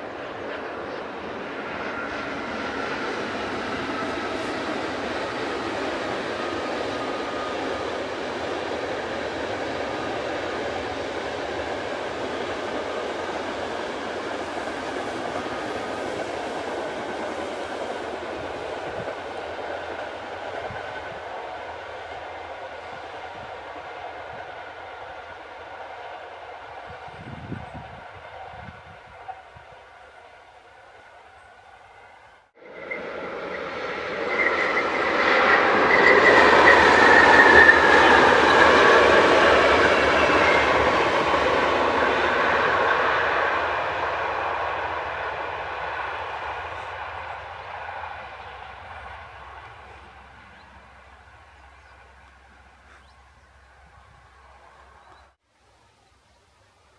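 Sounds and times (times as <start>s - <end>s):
train wheels rumbling on rails: 0.0s - 55.4s.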